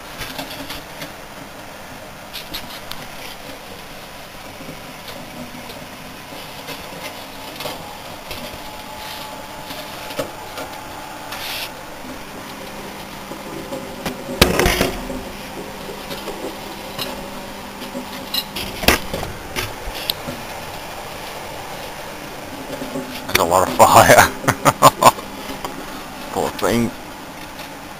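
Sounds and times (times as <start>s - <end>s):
microwave oven humming: 0.0s - 27.9s.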